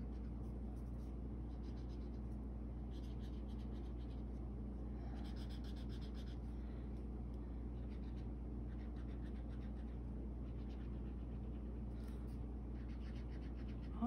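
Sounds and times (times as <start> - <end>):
marker scratching on paper: 0.0 - 4.4, 5.1 - 6.5, 7.8 - 14.0.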